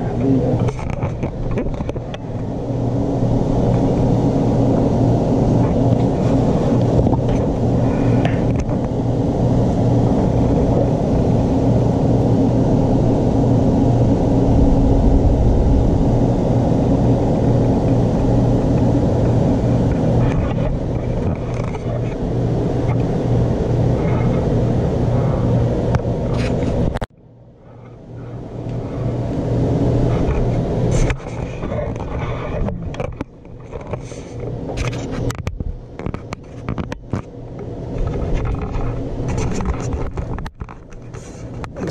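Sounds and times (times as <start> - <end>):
machine humming: 0.0 - 41.9.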